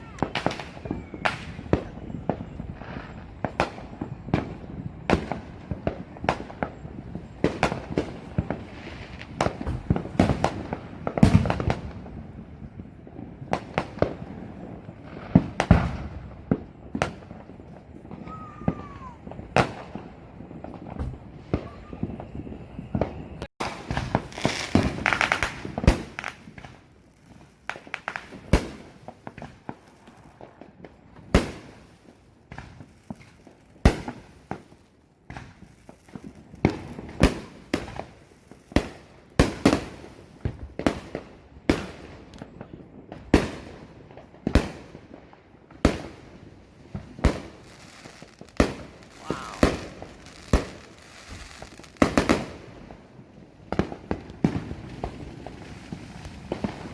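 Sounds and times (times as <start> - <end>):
fireworks bangs: 0.0 - 56.9
fireworks crackling: 0.0 - 56.9.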